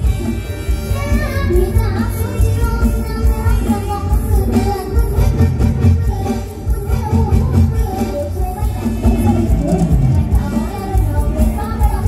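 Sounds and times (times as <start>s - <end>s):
band with heavy bass: 0.0s - 12.0s
girl singing: 0.2s - 12.0s.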